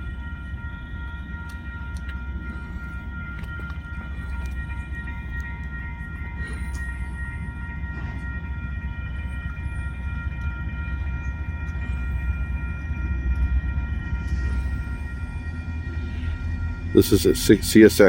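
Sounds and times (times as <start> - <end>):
freight train rumbling past: 0.0 - 18.0
steady high tones: 0.0 - 18.0.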